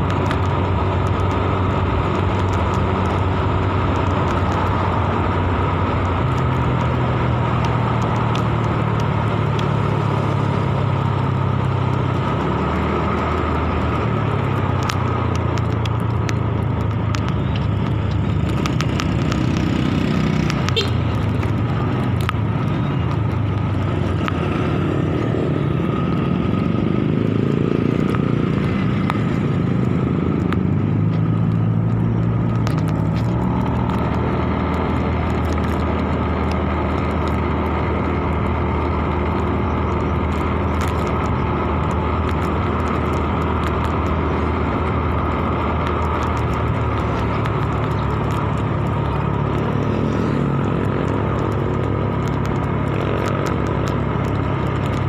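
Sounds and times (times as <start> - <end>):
motorcycle engine running: 0.0 - 55.0
passing traffic: 0.0 - 55.0
road and wind noise: 0.0 - 55.0.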